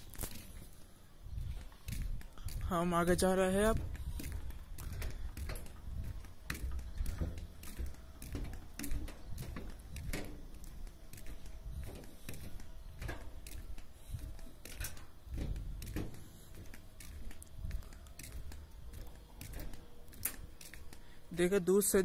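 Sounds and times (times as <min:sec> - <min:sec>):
wind rumbling on microphone: 0:00.0 - 0:21.0
footsteps on walkway: 0:00.0 - 0:22.0.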